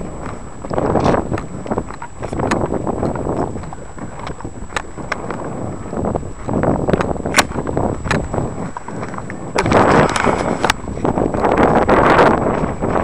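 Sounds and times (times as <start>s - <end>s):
footsteps crunching on dirt: 0.0s - 13.0s
wind buffeting microphone: 0.0s - 13.0s
sharp clicks: 0.2s - 5.5s, 6.4s - 11.7s.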